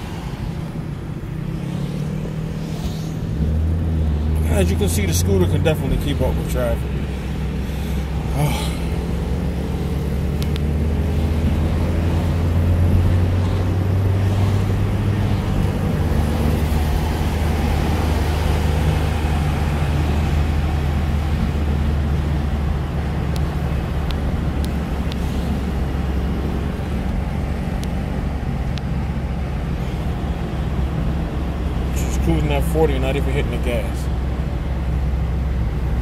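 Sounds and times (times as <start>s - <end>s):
car engine and road drone: 0.0s - 36.0s.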